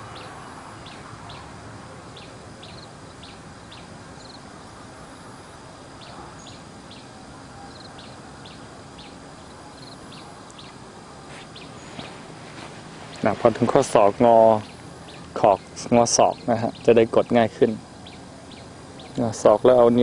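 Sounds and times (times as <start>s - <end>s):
small bird chirping: 0.0s - 4.7s, 5.9s - 19.6s
outdoor hiss: 0.0s - 20.0s.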